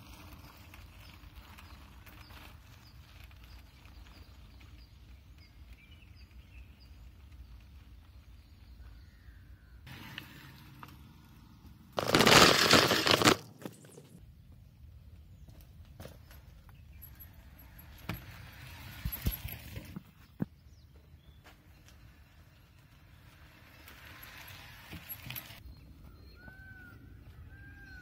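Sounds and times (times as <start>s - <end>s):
forest ambience: 0.0s - 28.0s.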